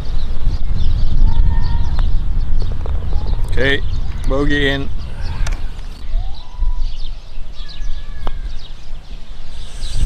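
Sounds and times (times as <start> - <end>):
small birds chirping faintly: 0.0 - 10.0
wind buffeting microphone: 0.0 - 10.0.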